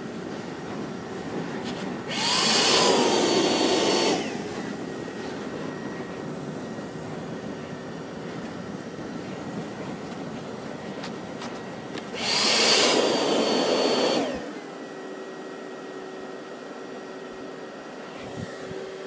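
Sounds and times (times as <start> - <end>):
electric fan blowing with whine: 0.0 - 19.0.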